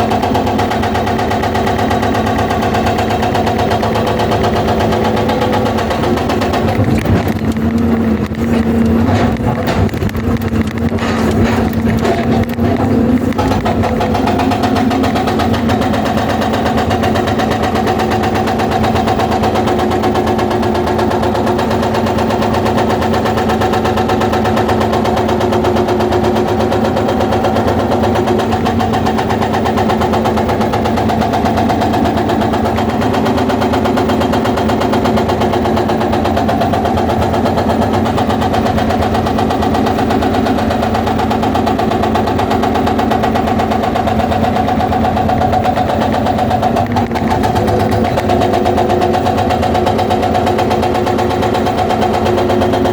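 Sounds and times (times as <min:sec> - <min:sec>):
diesel engine running: 0:00.0 - 0:52.9
hydraulic breaker hammering stone: 0:00.0 - 0:52.9.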